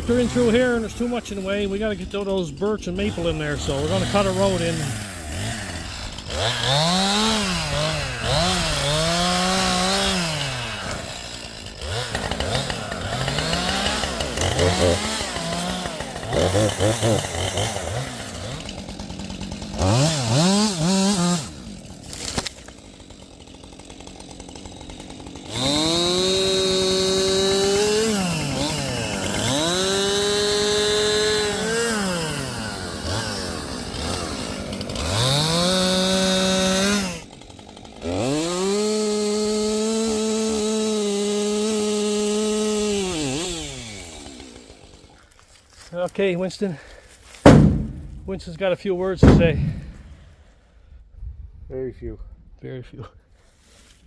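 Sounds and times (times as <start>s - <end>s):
chainsaw revving: 0.0s - 45.6s, 46.4s - 50.4s.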